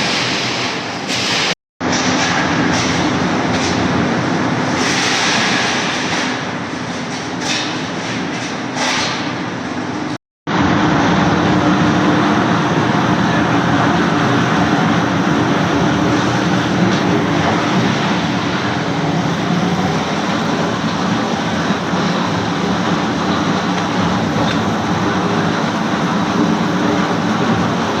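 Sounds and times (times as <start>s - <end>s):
production line machinery running: 0.0s - 28.0s.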